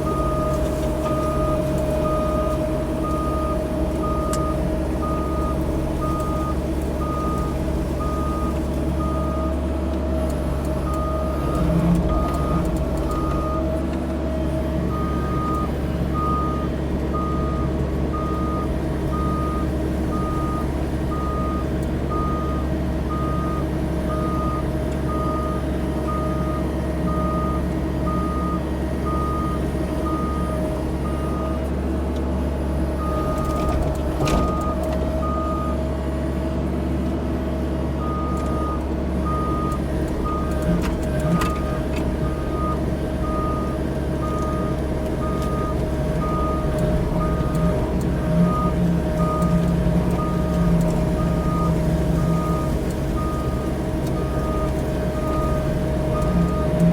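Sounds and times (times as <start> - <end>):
travel alarm beeping: 0.0 - 9.6, 14.9 - 31.6, 33.0 - 35.8, 38.0 - 56.9
diesel engine running: 0.0 - 56.9.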